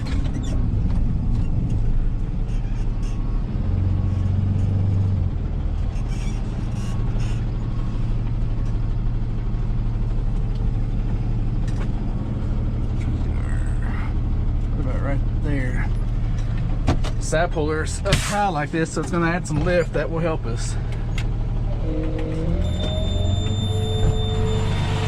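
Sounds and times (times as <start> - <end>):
truck engine humming: 0.0 - 25.0.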